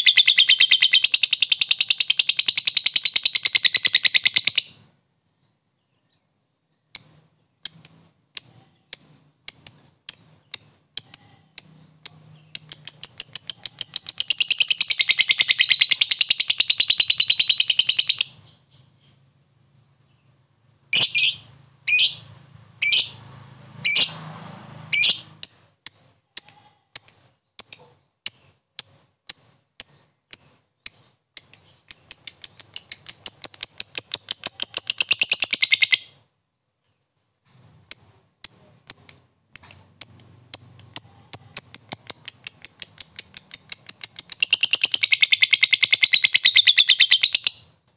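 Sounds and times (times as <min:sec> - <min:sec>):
lovebird chirping and trilling: 0:00.0 - 0:04.9, 0:05.8 - 0:19.3, 0:20.9 - 0:23.2, 0:23.8 - 0:24.2, 0:24.9 - 0:36.3, 0:37.4 - 0:47.8.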